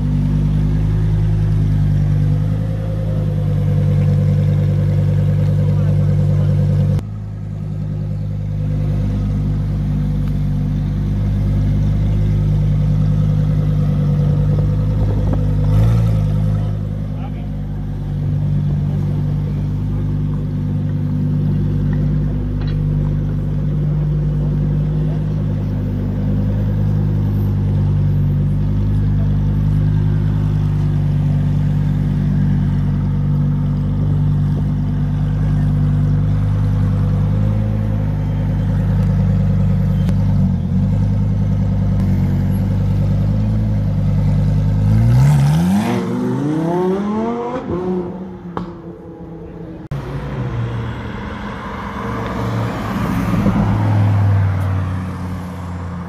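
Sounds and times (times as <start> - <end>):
sports car engine revving: 0.0 - 56.0.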